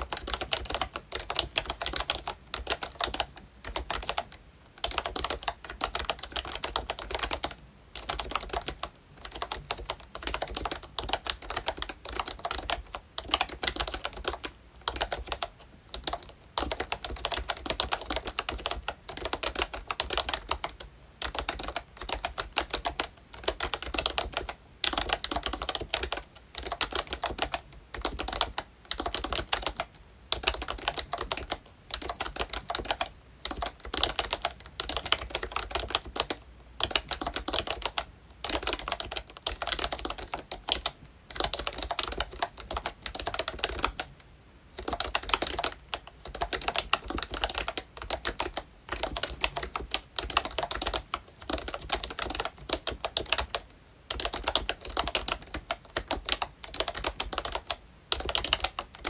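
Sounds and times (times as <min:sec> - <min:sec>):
fast typing on keyboard: 0:00.0 - 0:44.1, 0:44.7 - 0:59.0.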